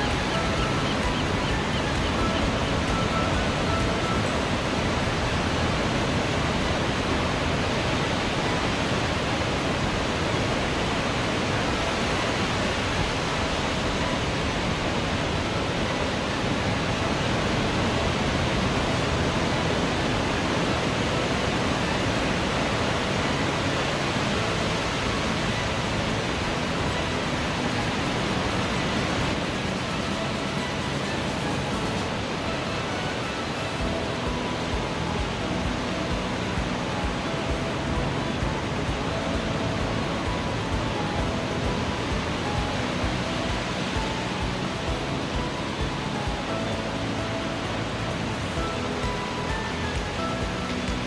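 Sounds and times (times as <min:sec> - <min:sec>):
ocean surf on a sandy beach: 0:00.0 - 0:51.0.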